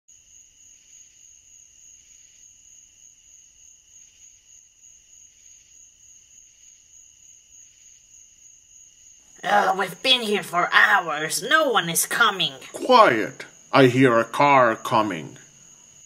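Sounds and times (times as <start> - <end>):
crickets chirping: 0.1 - 16.0.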